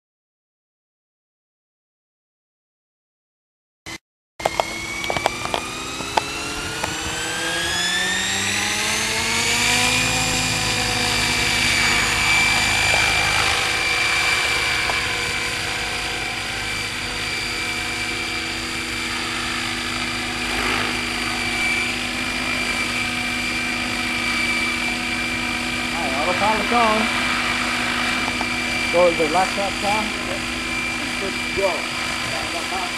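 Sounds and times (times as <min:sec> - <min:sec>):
model helicopter whine: 0:04.4 - 0:32.9.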